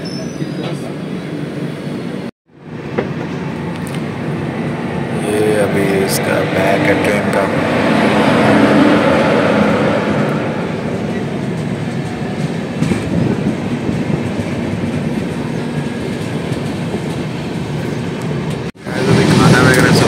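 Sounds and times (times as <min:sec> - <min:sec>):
train wheels on track: 0:00.0 - 0:20.0.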